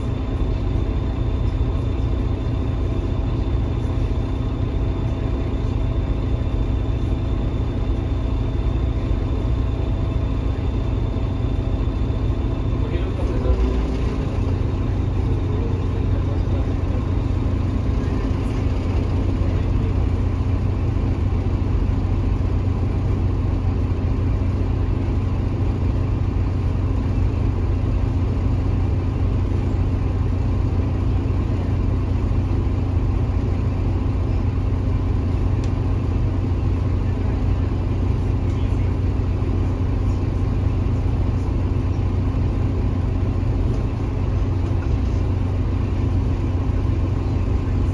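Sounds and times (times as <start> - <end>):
bus diesel engine rumbling: 0.0 - 47.9.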